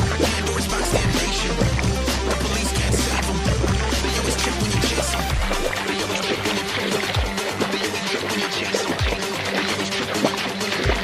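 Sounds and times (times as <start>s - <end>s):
held music tones: 0.0s - 11.0s
low drum beat: 0.0s - 11.0s.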